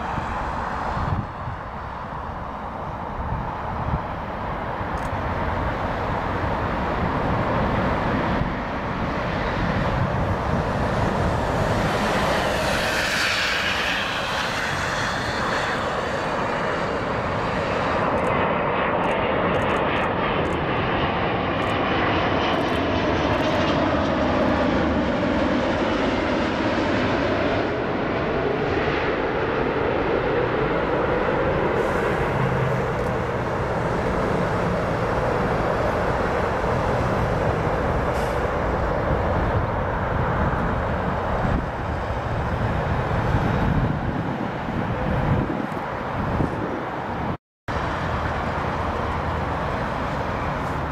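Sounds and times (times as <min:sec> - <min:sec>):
jet airliner roar: 0:00.0 - 0:50.9.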